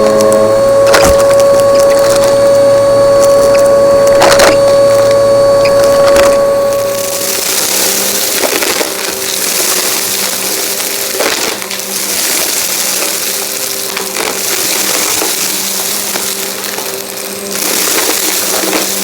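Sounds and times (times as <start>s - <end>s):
debris crackling in vacuum: 0.0s - 19.0s
vacuum cleaner running: 0.0s - 19.0s.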